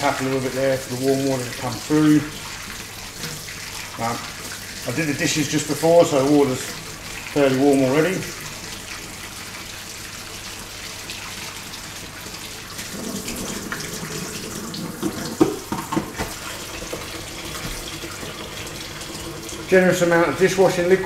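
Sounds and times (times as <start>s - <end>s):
tap water splashing into sink: 0.0s - 21.0s.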